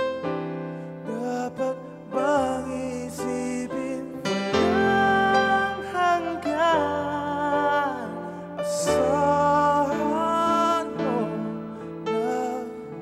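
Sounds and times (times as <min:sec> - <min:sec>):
keyboard: 0:00.0 - 0:13.0
man singing wordless runs: 0:01.1 - 0:13.0.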